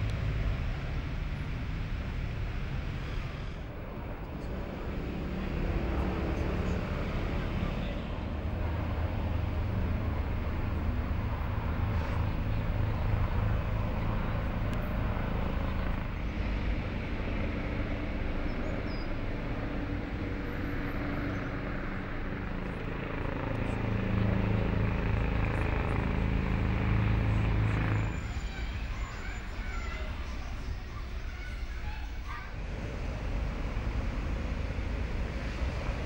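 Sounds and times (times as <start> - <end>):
street noise: 0.0 - 36.0
vehicle engine humming: 0.0 - 36.0.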